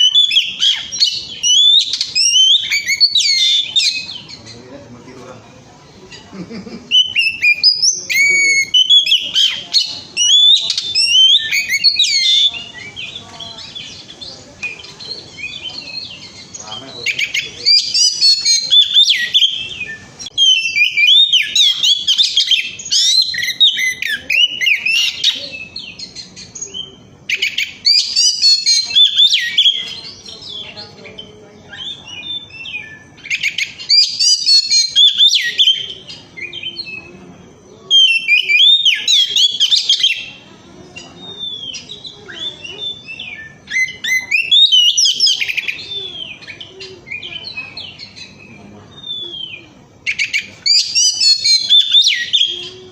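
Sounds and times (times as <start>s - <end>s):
songbird whistling and twittering: 0.0s - 4.8s, 6.1s - 52.9s.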